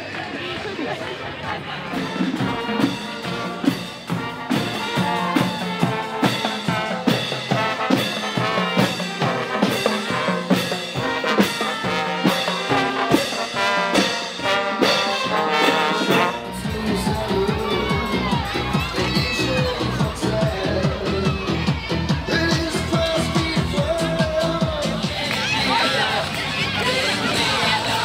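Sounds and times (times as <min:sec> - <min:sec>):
trombones and trumpets: 0:01.5 - 0:28.0
steady drum beat: 0:01.8 - 0:28.0.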